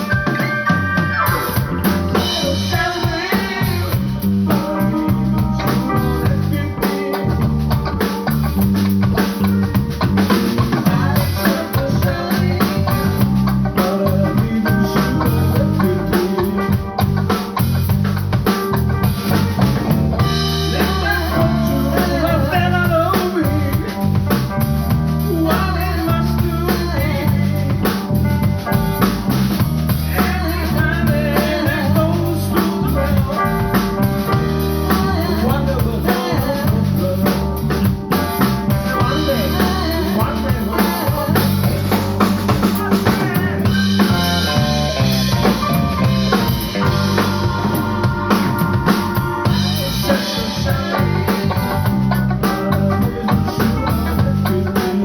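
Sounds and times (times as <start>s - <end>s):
person singing: 0.0s - 8.4s, 10.2s - 17.4s, 20.2s - 28.3s, 29.9s - 55.0s
bass: 0.0s - 55.0s
drum kit: 0.0s - 55.0s
guitar: 0.0s - 55.0s.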